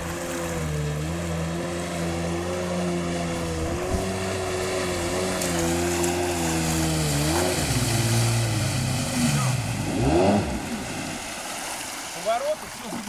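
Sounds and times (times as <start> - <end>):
jet ski engine droning: 0.0 - 13.0.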